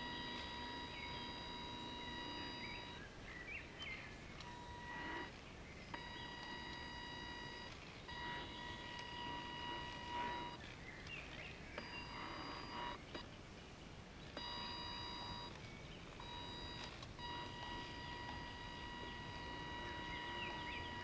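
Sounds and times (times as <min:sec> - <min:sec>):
electric motor whine: 0:00.0 - 0:03.2, 0:04.3 - 0:13.2, 0:14.3 - 0:21.0
birds chirping: 0:00.0 - 0:21.0.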